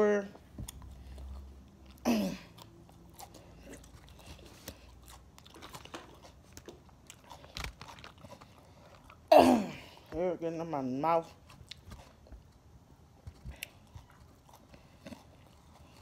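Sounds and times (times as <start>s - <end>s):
chewing crisp salad: 0.5s - 10.2s, 11.2s - 16.0s.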